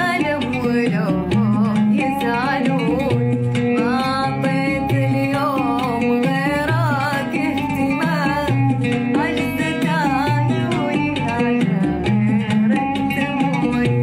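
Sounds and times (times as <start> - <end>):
instrumental backing music: 0.0 - 14.0
woman singing: 0.0 - 14.0.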